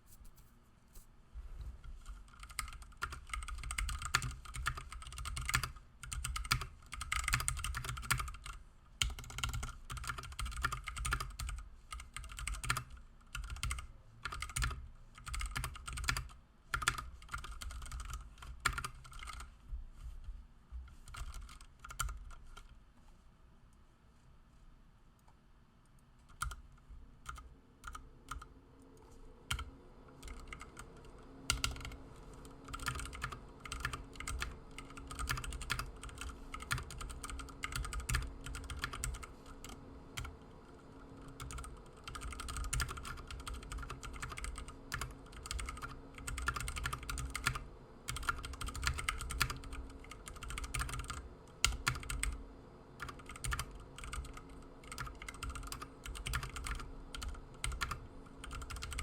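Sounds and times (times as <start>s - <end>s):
mechanical keyboard typing: 2.1s - 19.5s, 21.0s - 22.7s, 26.3s - 26.6s, 27.2s - 28.5s, 29.5s - 40.4s, 41.2s - 52.4s, 53.0s - 59.0s.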